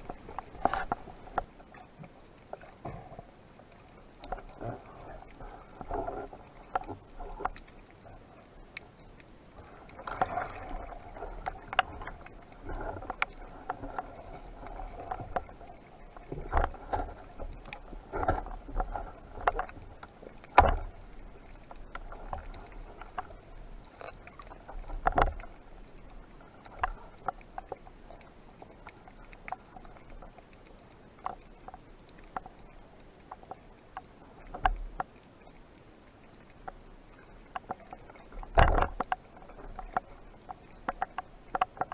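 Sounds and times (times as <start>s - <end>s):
underwater water sounds: 0.0s - 41.9s.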